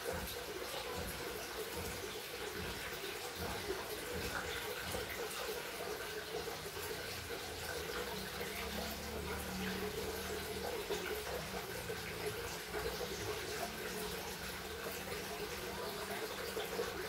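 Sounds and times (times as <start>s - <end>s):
running water pouring: 0.0s - 17.0s.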